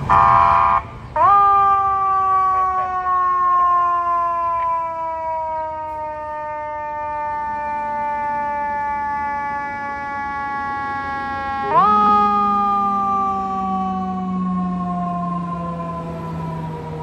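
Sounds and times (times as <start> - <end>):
fire engine siren wailing: 0.0 - 17.0.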